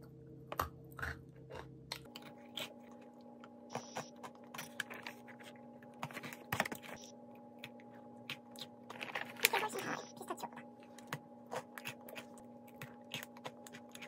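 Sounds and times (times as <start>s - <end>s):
crunching and chewing cookie: 0.0s - 9.8s, 10.6s - 14.0s
faint steady hum: 0.0s - 14.0s.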